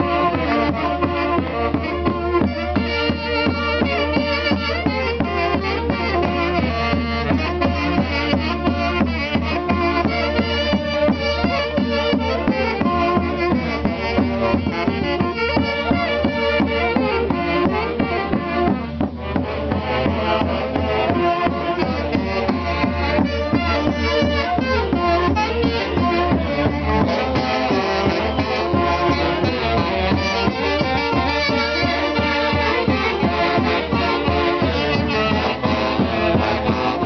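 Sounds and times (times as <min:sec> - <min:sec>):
band music with steady beat: 0:00.0 - 0:37.0.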